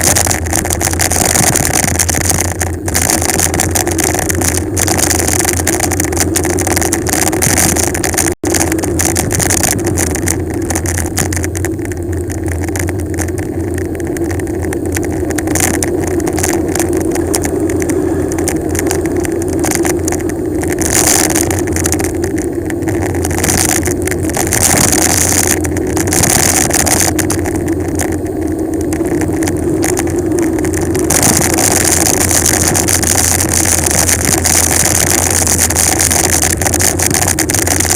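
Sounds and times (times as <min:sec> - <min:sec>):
tyre road rumble: 0:00.0 - 0:37.9
wind on microphone: 0:00.0 - 0:37.9.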